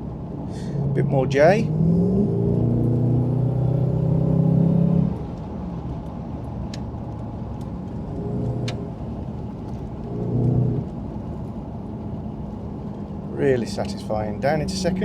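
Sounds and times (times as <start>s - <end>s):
car engine pulling hard: 0.4s - 15.0s.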